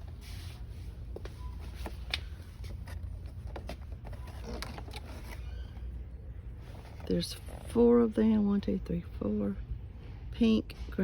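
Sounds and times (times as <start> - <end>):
low shop background hum: 0.0 - 11.0.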